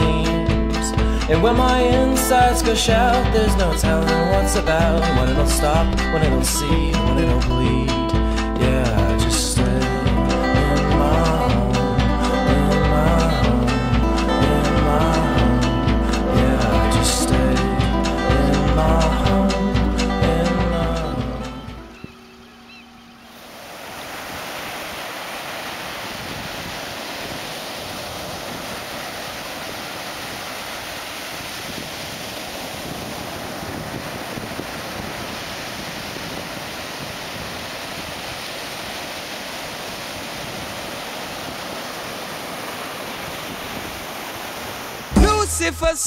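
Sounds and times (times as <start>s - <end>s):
ocean surf breaking on beach: 0.0s - 46.0s.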